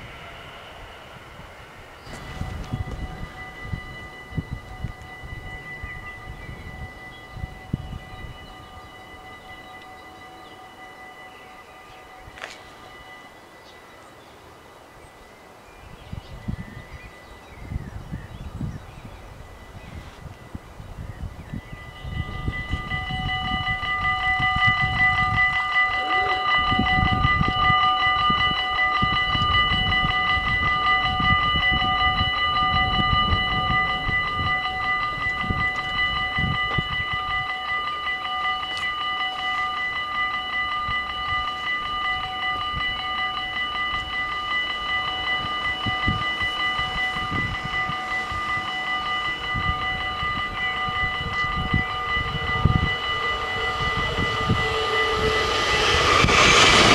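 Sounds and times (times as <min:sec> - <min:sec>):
level crossing warning bells: 0:00.0 - 0:56.9.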